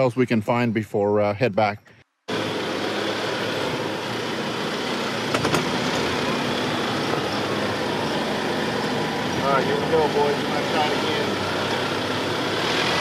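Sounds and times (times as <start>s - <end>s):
car engine at low revs: 2.3s - 13.0s.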